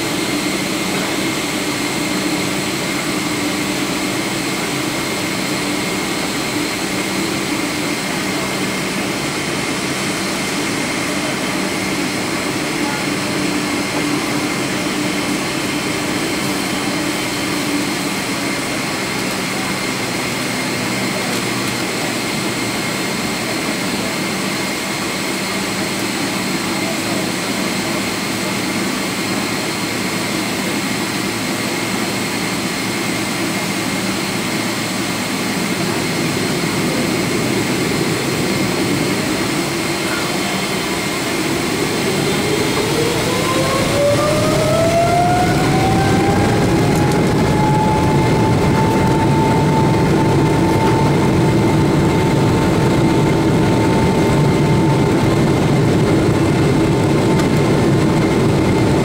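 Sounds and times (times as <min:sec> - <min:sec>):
jet engine hum: 0:00.0 - 0:59.0
jet engine whine rising: 0:00.0 - 0:59.0.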